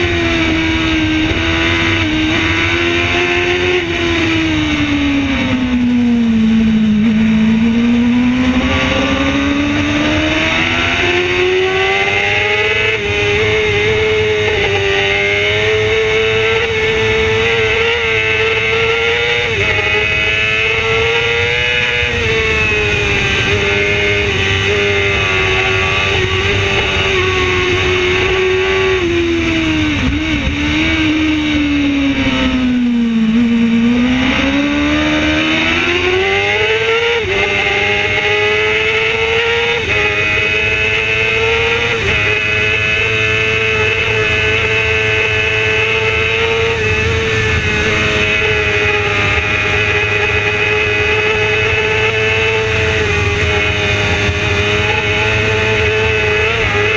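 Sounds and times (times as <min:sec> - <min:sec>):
racing motorcycle engine revving: 0:00.0 - 0:56.9.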